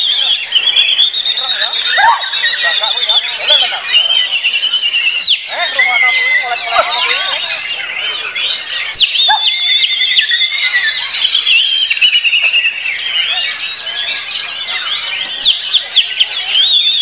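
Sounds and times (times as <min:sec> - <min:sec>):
bird singing whistles and trills: 0:00.0 - 0:17.0
many songbirds singing: 0:00.0 - 0:17.0.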